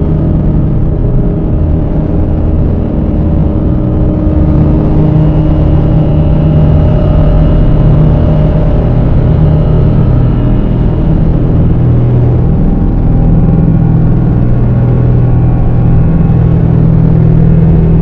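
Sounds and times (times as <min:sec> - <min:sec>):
held drone tones: 0:00.0 - 0:18.0
low rumbling noise: 0:00.0 - 0:18.0.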